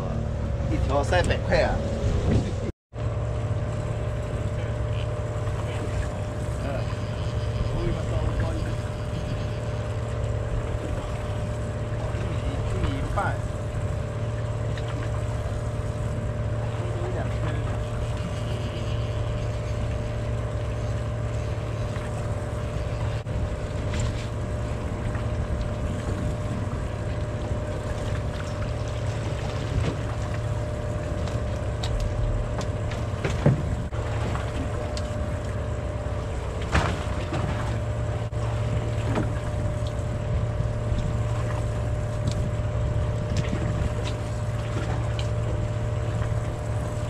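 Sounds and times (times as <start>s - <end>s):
boat engine idling: 0.0s - 47.0s.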